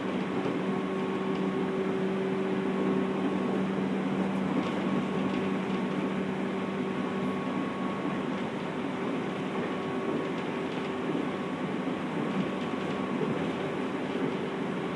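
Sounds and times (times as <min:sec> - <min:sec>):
train interior rolling rumble: 0:00.0 - 0:14.9.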